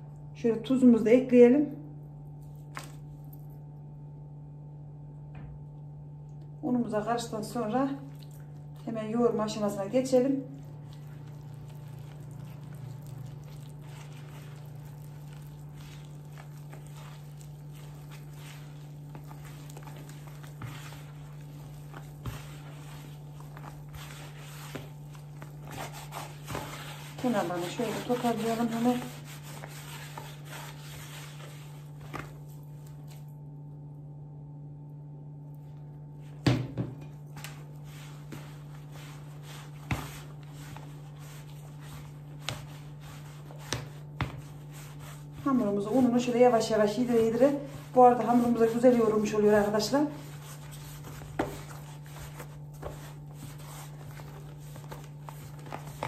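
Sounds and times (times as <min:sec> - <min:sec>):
steady low hum: 0:00.0 - 0:56.0
hands kneading dough: 0:02.3 - 0:03.5, 0:06.4 - 0:33.4, 0:35.6 - 0:56.0.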